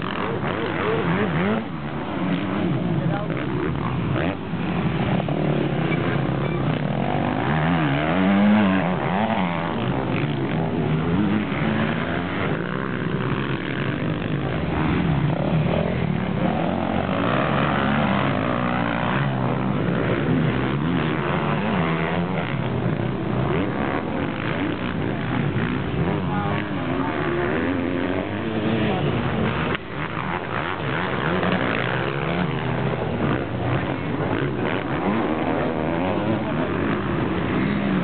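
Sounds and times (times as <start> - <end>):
motocross bike engines revving: 0.0 - 38.0.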